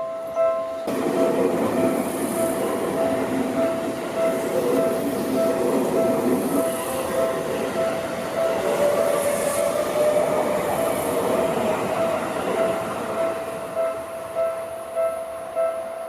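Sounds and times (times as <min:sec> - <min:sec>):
crossing warning bell dinging: 0:00.0 - 0:16.0
electric train passing: 0:00.0 - 0:16.0.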